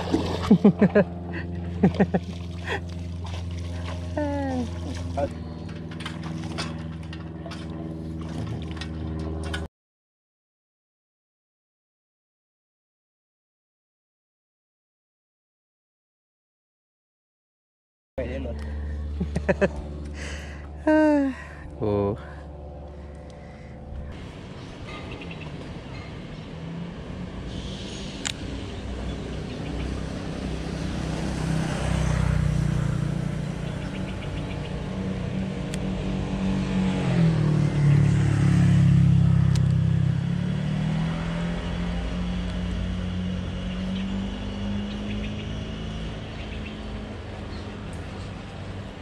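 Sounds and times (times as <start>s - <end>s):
vehicle engine passing: 0.0s - 9.7s, 18.2s - 49.0s.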